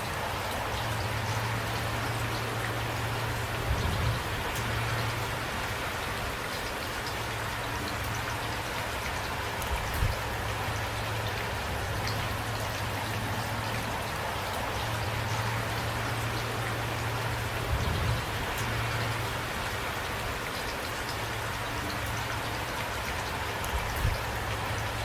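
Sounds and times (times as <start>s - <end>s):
light rain hiss: 0.0s - 25.0s
raindrops ticking: 0.0s - 25.0s.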